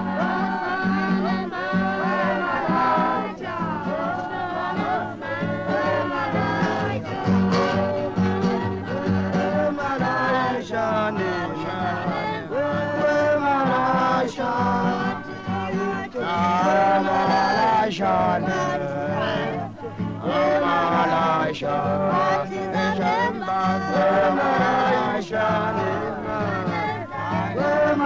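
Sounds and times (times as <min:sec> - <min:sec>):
voices singing: 0:00.0 - 0:28.0.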